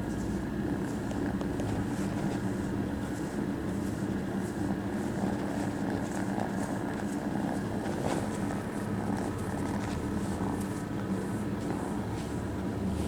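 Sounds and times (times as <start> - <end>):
faint rustles: 0.0 - 13.0
kitten purring: 0.0 - 13.0.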